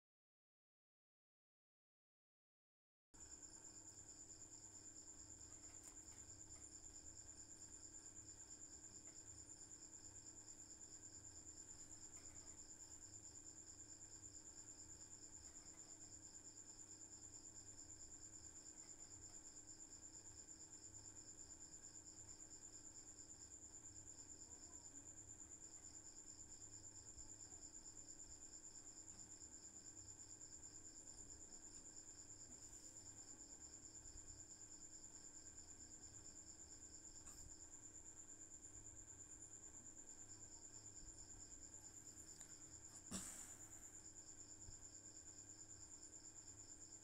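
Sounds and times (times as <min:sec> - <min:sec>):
steady cricket trill: 0:03.2 - 0:47.0.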